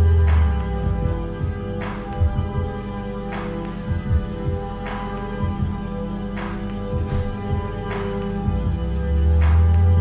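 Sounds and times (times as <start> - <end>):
experimental electronic music: 0.0 - 10.0
held synth chords: 0.0 - 10.0.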